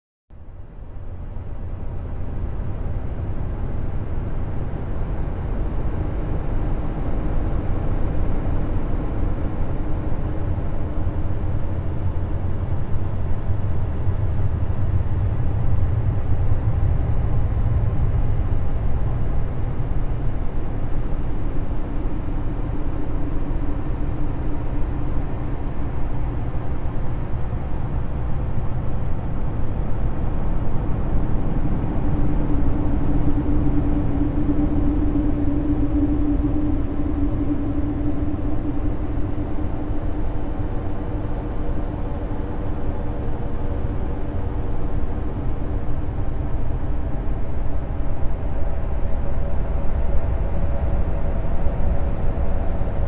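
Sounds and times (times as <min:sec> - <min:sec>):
faint hum: 0:00.4 - 0:53.0
low rumbling drone: 0:00.4 - 0:53.0.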